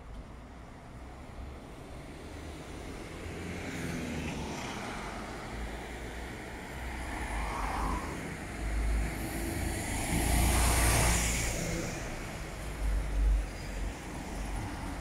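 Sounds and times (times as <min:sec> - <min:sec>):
cars passing: 0:00.9 - 0:15.0.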